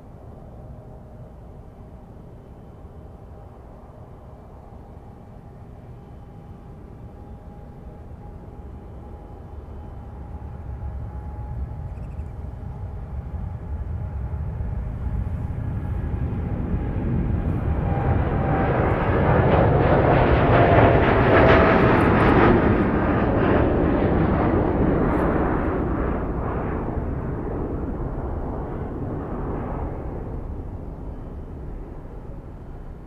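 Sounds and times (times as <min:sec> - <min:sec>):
jet engines roaring at takeoff: 0:00.0 - 0:33.0.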